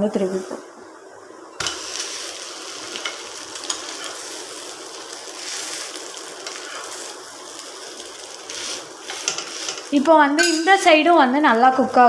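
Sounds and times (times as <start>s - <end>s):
dosa sizzling in oil: 1.5s - 12.0s.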